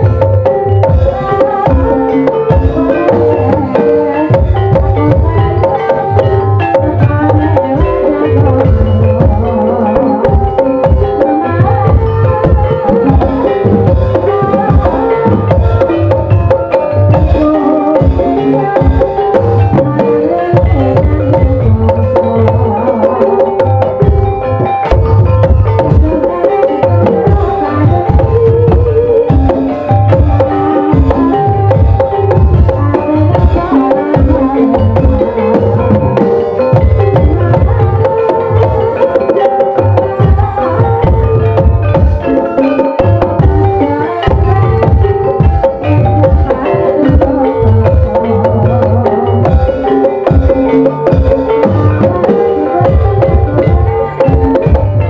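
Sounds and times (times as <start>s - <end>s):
gamelan ensemble playing: 0.0s - 55.0s
hand drums beating: 0.0s - 55.0s.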